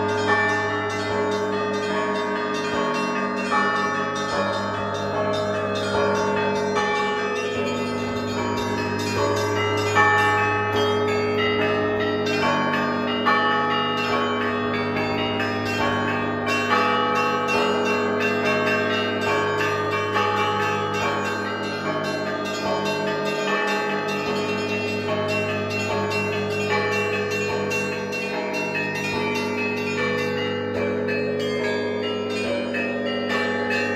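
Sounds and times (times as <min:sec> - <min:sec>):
large bell hum: 0:00.0 - 0:33.9
small bells chiming: 0:00.0 - 0:33.9.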